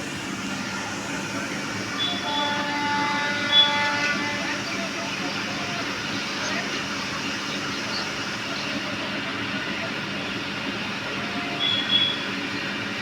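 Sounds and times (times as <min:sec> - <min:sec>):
train running past: 0:00.0 - 0:13.0.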